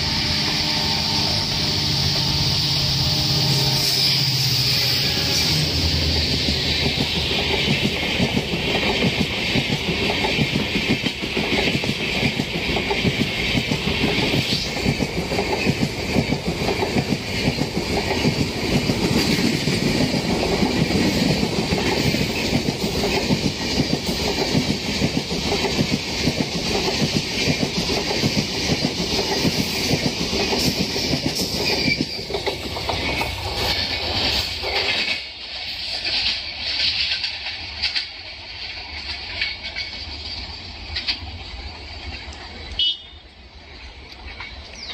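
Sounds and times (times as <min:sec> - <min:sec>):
train wheels clattering: 0:05.2 - 0:42.6.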